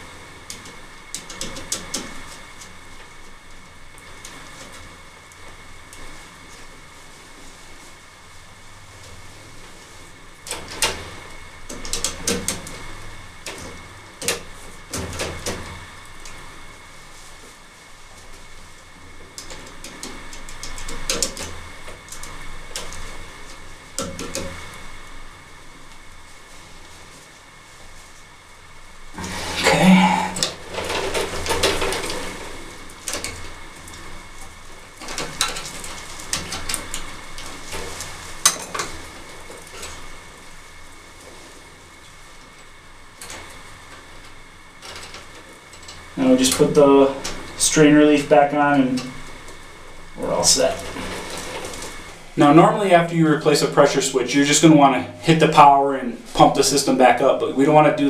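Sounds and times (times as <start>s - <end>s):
hands rustling and scraping wires: 0.0s - 58.0s.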